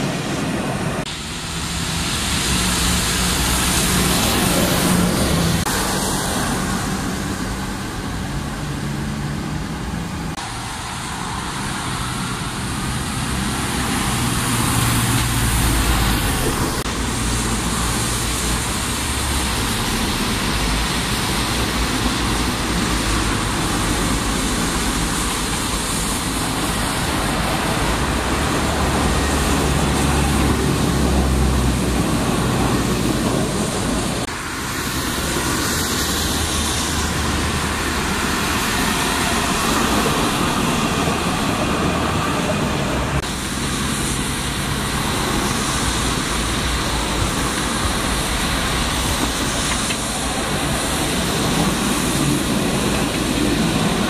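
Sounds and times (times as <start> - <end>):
tyres hissing on wet road: 0.0 - 54.0.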